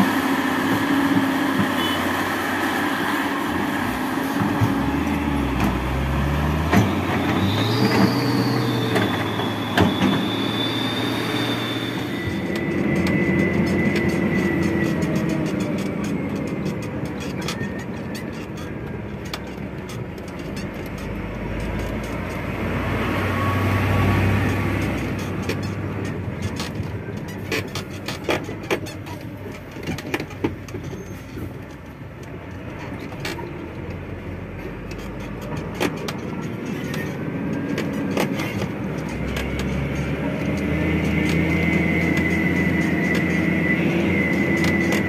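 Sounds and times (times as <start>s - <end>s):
engine whine: 0.0s - 45.0s
truck engine and road rumble: 0.0s - 45.0s
cab rattling over bumps: 3.4s - 10.6s, 12.2s - 45.0s.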